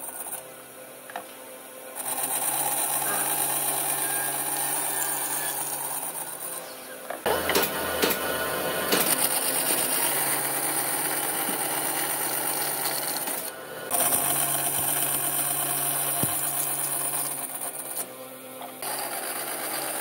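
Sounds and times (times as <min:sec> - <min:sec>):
bandsaw cutting wood: 0:02.0 - 0:20.0.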